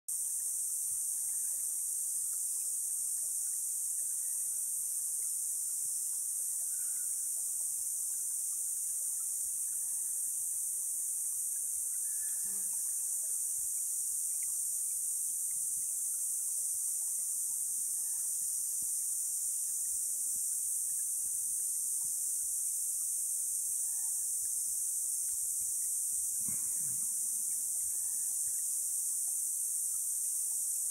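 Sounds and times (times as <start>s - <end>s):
insects trilling: 0.1s - 30.9s.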